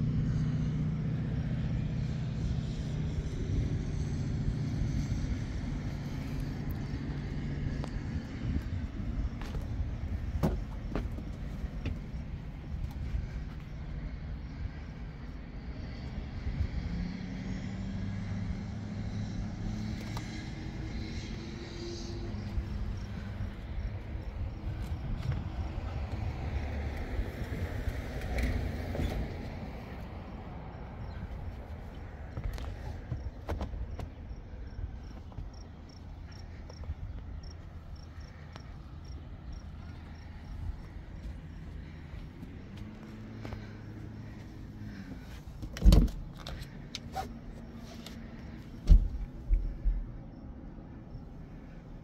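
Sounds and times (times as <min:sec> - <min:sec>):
outdoor background noise: 0:00.0 - 0:52.0
vehicle engine hum: 0:00.0 - 0:52.0
cricket chirping: 0:04.6 - 0:52.0.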